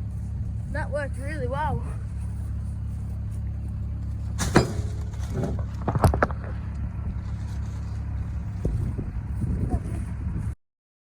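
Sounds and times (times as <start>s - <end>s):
engine running at low speed: 0.0s - 10.6s.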